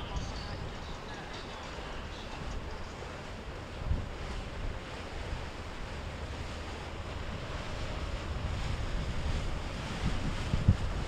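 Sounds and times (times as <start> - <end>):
waves washing: 0.0 - 11.0
wind buffeting microphone: 0.0 - 11.0.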